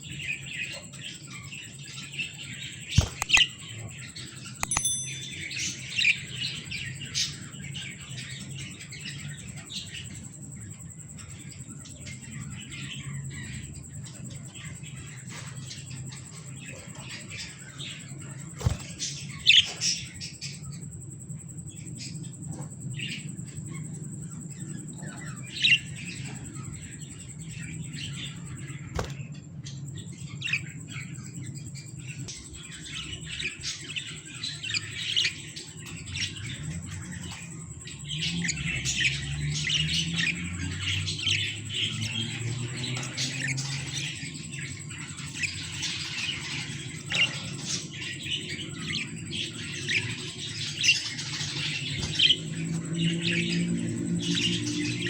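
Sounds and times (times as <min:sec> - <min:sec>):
budgerigars chirping: 0:00.0 - 0:10.2, 0:14.3 - 0:20.7, 0:25.0 - 0:29.4, 0:30.0 - 0:55.0
steady low hum: 0:00.0 - 0:55.0.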